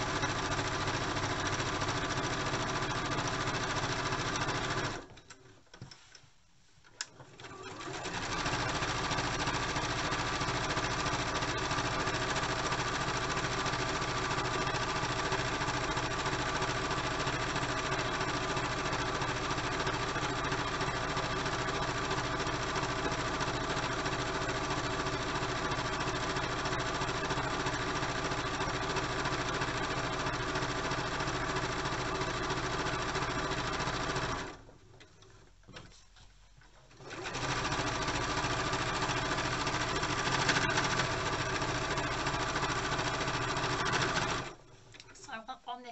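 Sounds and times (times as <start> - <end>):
sewing machine stitching: 0.0 - 5.2, 7.1 - 35.9, 36.9 - 44.6.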